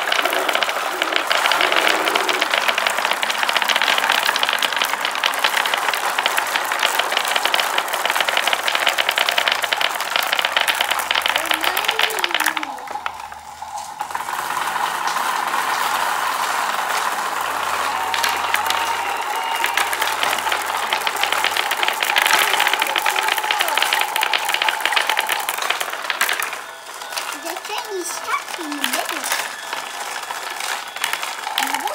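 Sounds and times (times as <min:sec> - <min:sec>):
marbles clattering down wooden tracks: 0:00.0 - 0:31.9.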